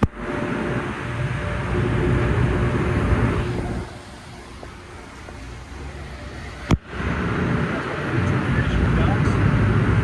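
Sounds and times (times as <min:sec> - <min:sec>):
air dryers blowing: 0:00.0 - 0:10.0.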